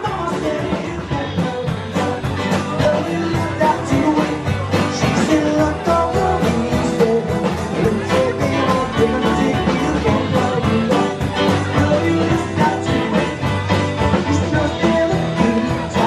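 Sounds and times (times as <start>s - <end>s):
acoustic rock band playing: 0.0s - 16.0s
strummed guitars: 0.0s - 16.0s.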